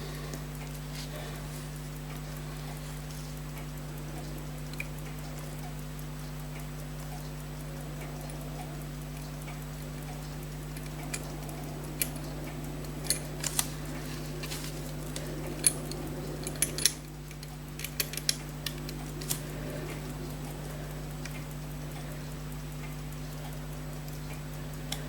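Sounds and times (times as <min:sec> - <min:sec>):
low electrical hum: 0:00.0 - 0:25.0
small metallic clicks and taps: 0:01.8 - 0:25.0.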